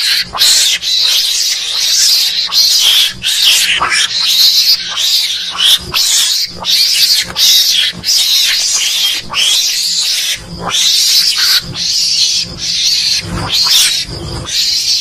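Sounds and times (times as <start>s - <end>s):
mongoose screeching calls: 0.0s - 15.0s.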